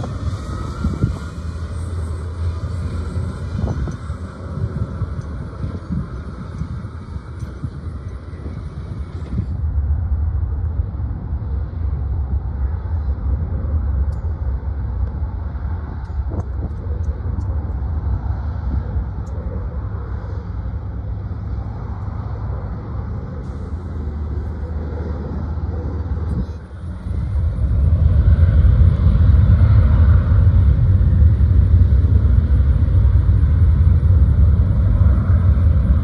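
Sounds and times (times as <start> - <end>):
diesel machinery running: 0.0 - 36.0
jet airliner rumble: 0.0 - 36.0.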